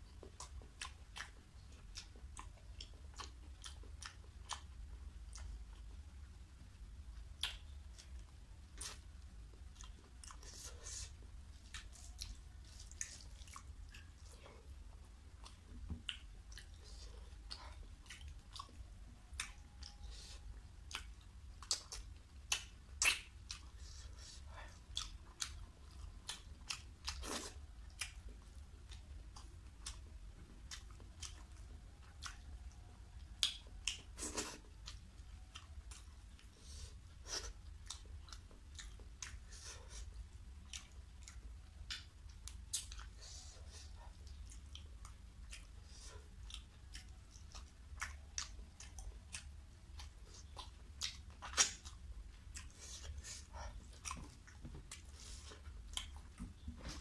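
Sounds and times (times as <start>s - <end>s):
man chewing food: 0.0s - 57.0s
steady low hum: 0.0s - 57.0s.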